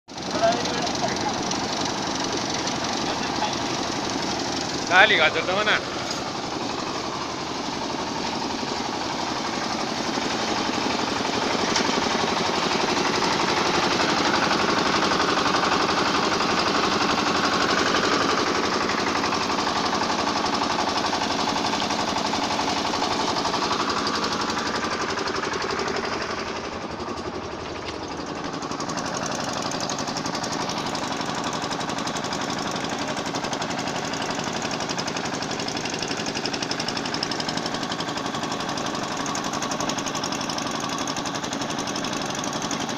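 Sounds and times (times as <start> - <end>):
washing machine rattling: 0.1 - 42.9.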